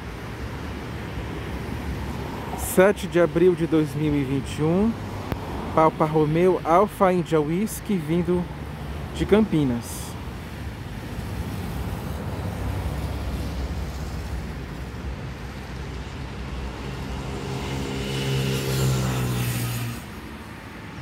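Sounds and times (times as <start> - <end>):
road traffic rumble: 0.0 - 21.0
vehicle engine humming: 0.0 - 21.0.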